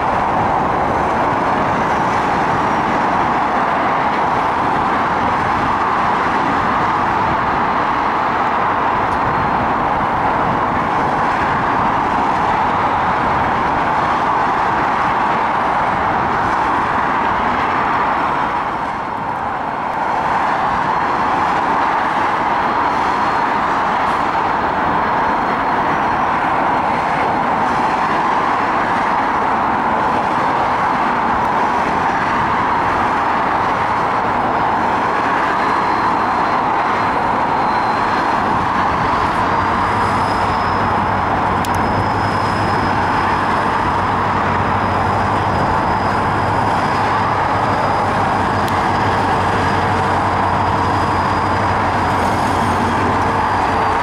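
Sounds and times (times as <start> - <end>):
diesel locomotive engine hum: 0.0 - 54.0
motorway traffic rushing: 0.0 - 54.0.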